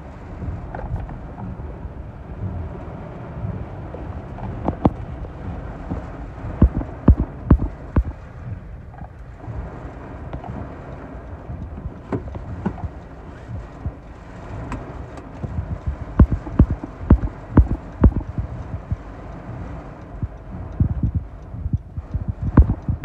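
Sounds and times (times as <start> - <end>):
heavy rain on car: 0.0 - 23.0
low thumps and knocks: 0.1 - 23.0.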